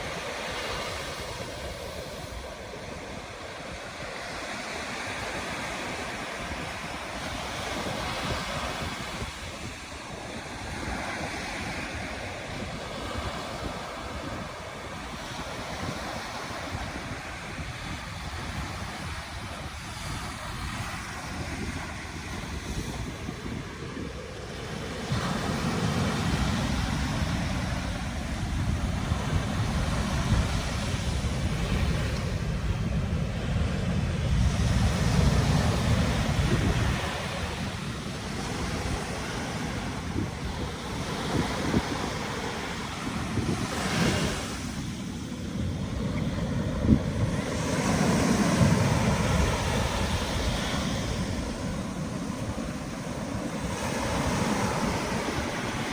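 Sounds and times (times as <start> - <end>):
surf breaking on a beach: 0.0 - 55.9
wind rumbling on microphone: 0.0 - 55.9.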